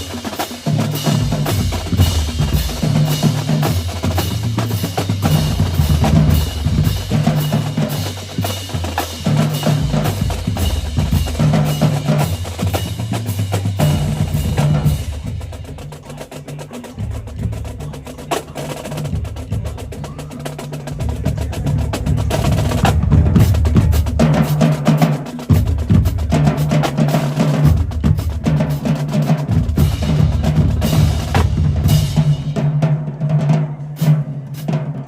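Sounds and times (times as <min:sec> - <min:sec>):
snare drums: 0:00.0 - 0:35.0.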